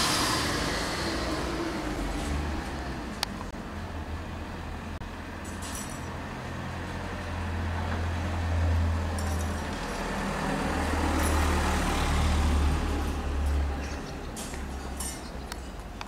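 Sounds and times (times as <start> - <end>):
steady low traffic rumble: 0.0 - 16.0
vehicles passing by: 0.0 - 16.0.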